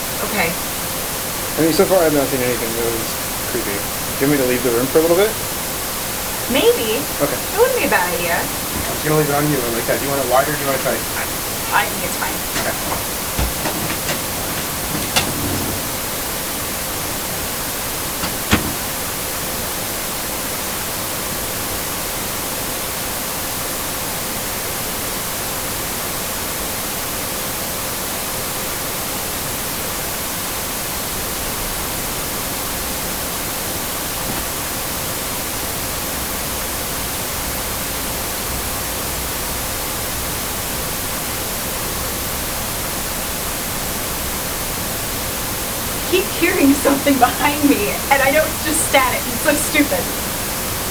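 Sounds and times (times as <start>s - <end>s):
static hiss: 0.0s - 50.9s.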